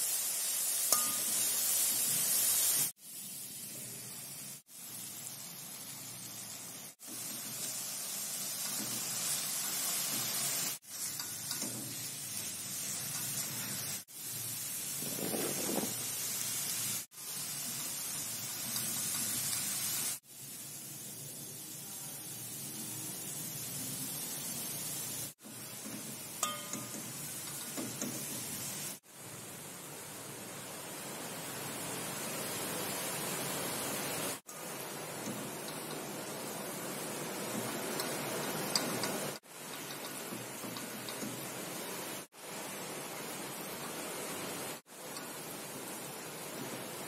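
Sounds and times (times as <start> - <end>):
vegetables sizzling in a wok: 0.0 - 47.0.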